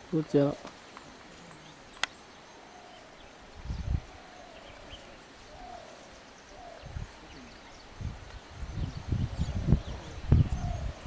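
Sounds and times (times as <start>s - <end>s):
soft hiss: 0.0s - 11.0s
bird calls and chirps: 0.2s - 11.0s.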